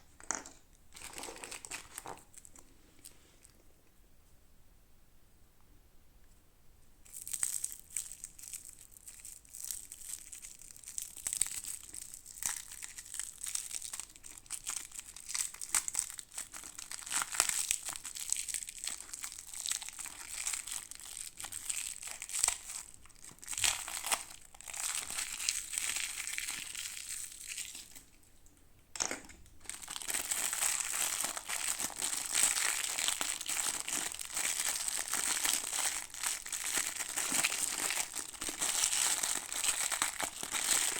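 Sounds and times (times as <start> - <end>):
plastic packaging crinkling: 0.2 - 2.6, 7.2 - 28.1, 29.0 - 40.9.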